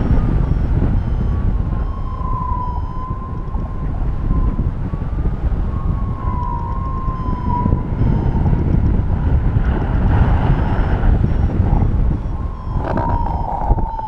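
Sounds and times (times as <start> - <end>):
thin wavering tone: 0.0 - 9.6, 10.4 - 14.0
wind buffeting microphone: 0.0 - 14.0.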